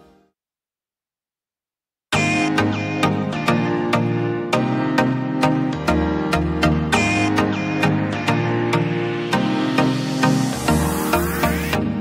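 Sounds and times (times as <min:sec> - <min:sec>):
background music with steady beat: 0:02.1 - 0:12.0.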